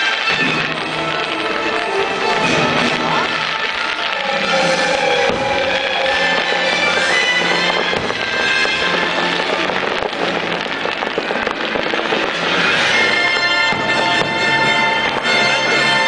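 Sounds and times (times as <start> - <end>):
fireworks bursting and crackling: 0.0 - 16.0
loud music with sustained notes: 0.0 - 16.0.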